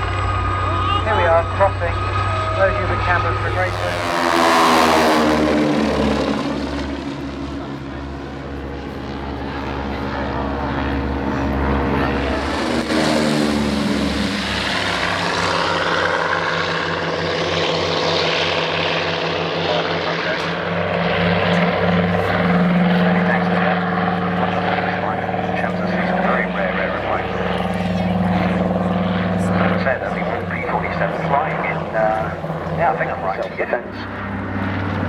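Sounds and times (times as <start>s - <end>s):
propeller aircraft engine drone: 0.0s - 35.0s.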